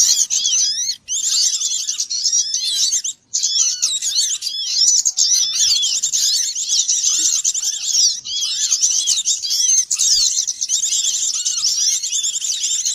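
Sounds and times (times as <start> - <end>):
songbirds chirping: 0.0 - 12.9.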